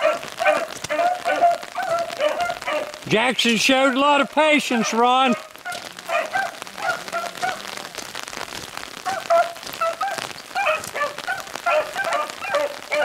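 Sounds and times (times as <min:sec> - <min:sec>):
hounds baying: 0:00.0 - 0:03.0, 0:03.7 - 0:07.8, 0:09.0 - 0:13.0
rain pattering: 0:00.0 - 0:13.0.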